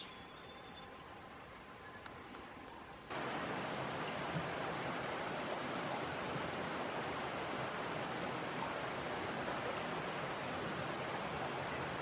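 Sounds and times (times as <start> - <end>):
steady rushing hiss: 1.2 - 12.0.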